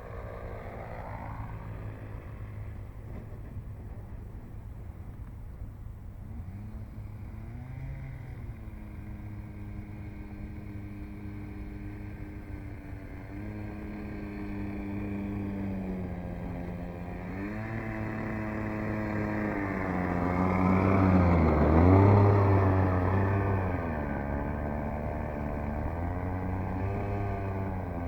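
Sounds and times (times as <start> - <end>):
model plane engine revving: 0.0 - 3.7, 6.2 - 28.0.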